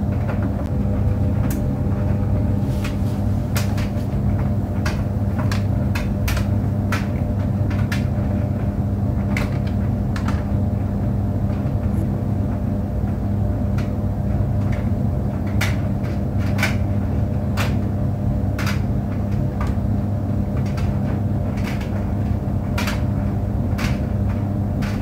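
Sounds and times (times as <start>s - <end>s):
tumble dryer humming: 0.0s - 25.0s.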